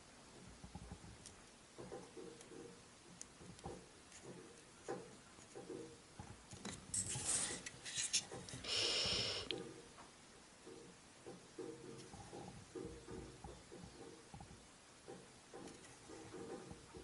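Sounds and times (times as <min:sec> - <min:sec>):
fingers tapping and scraping wood: 0:00.3 - 0:08.6, 0:10.6 - 0:17.0.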